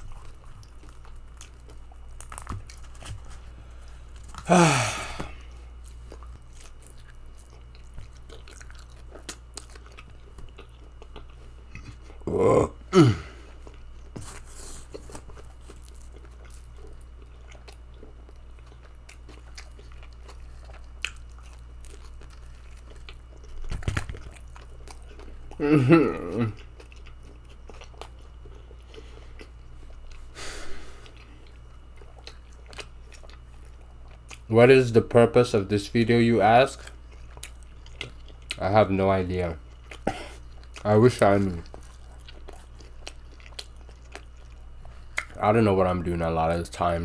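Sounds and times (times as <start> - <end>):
person chewing pizza: 0.0 - 47.0.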